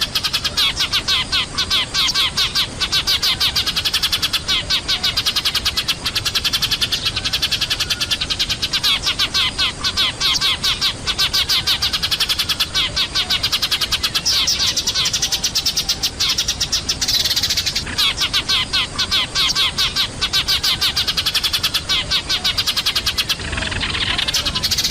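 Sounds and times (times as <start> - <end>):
flock of sparrows chirping: 0.0 - 24.9.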